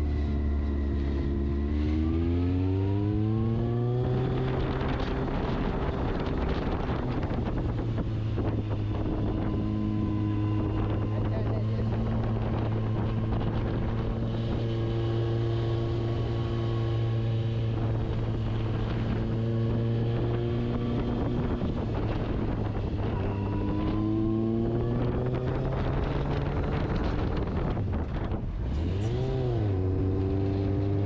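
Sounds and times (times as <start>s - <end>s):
motorcycle engine running: 0.0s - 28.7s
wind buffeting microphone: 2.5s - 31.0s.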